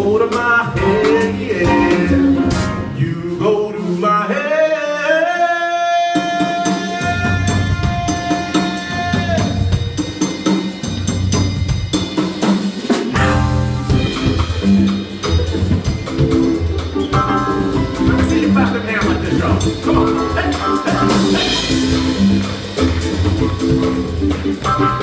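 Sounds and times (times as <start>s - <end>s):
jazz band playing: 0.0s - 4.8s, 5.8s - 25.0s.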